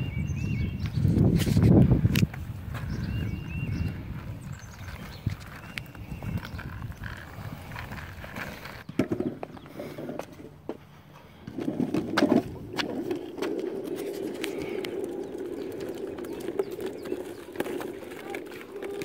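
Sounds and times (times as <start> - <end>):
scooter wheels rolling on asphalt: 0.1 - 19.0.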